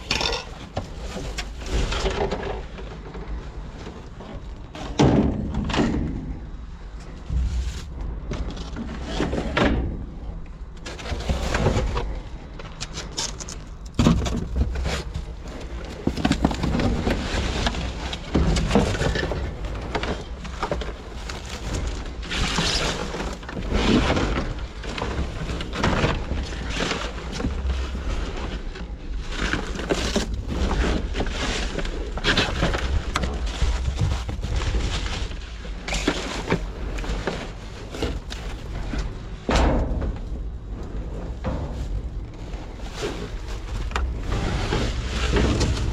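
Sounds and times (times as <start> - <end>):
trash rustling and clunking: 0.0 - 45.9.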